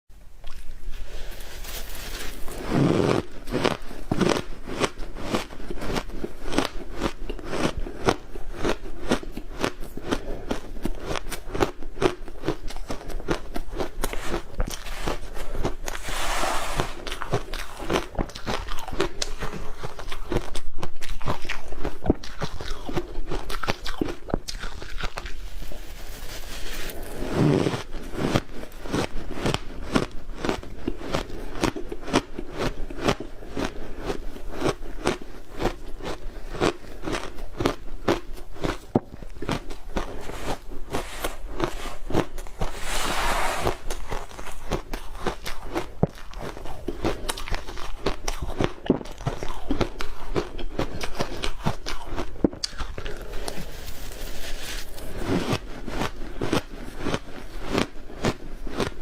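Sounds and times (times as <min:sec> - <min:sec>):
ice being chewed: 0:00.4 - 0:59.0.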